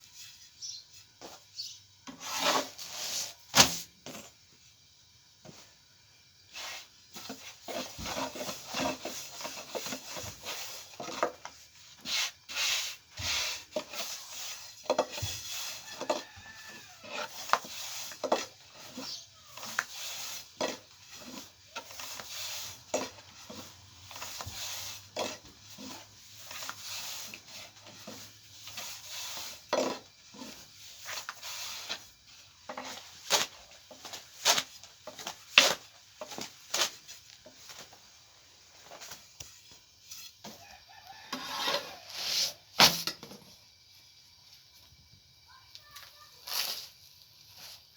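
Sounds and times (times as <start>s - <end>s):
rubbing and scraping dough: 0.0s - 4.4s, 6.5s - 42.8s, 45.8s - 47.9s.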